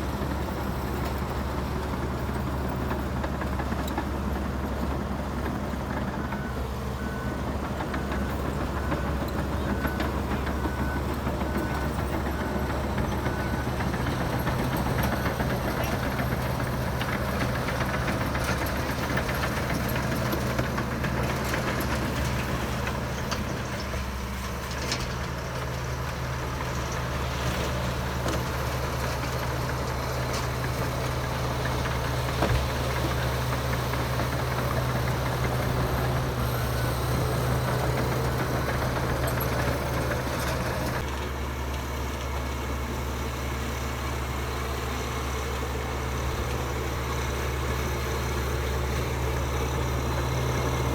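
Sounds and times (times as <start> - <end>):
heavy diesel engine idling: 0.0 - 50.9.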